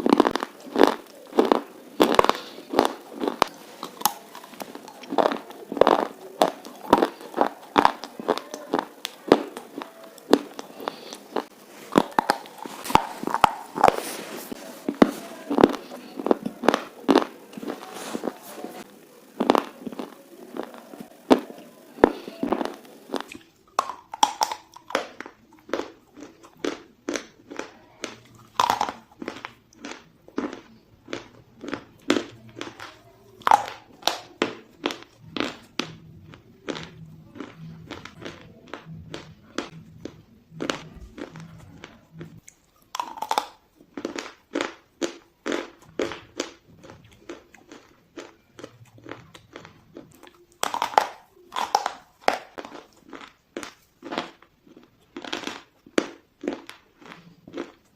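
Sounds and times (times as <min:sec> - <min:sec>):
crunchy chewing: 0:00.0 - 0:57.9.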